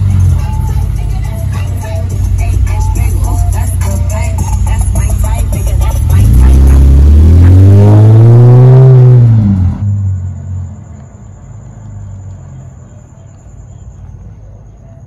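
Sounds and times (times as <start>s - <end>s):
car engine revving: 0.0s - 12.5s.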